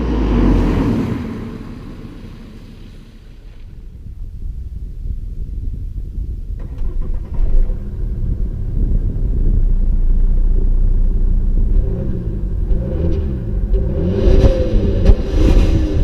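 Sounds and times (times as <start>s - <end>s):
diesel engine accelerating: 0.0s - 16.0s.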